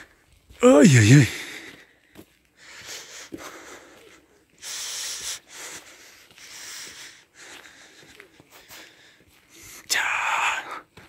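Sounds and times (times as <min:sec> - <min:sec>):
person breathing: 0:01.0 - 0:11.0.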